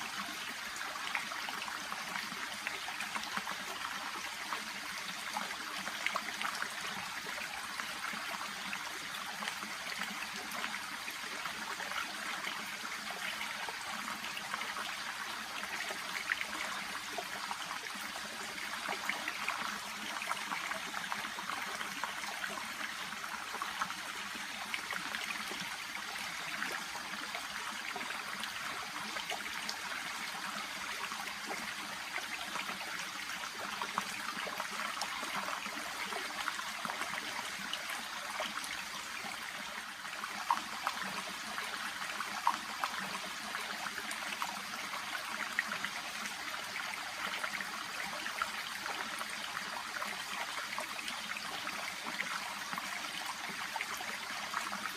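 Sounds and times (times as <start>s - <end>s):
brook babbling and trickling: 0.0s - 54.9s.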